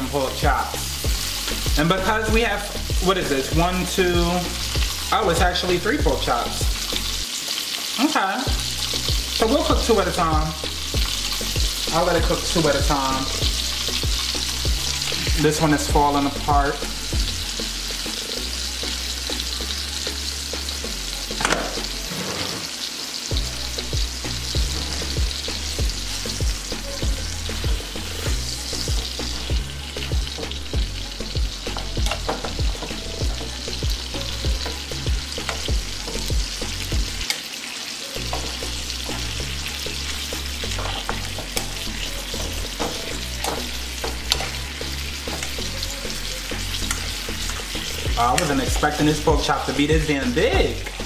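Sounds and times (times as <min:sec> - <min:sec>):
meat sizzling in a pan: 0:00.0 - 0:51.0.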